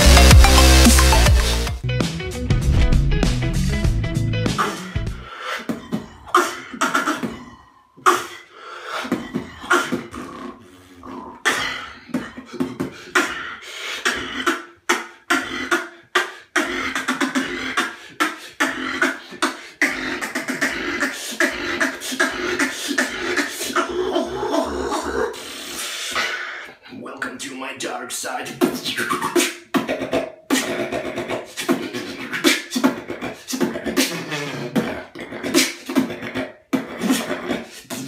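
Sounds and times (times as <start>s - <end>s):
person beatboxing: 4.5s - 24.5s, 25.3s - 38.0s.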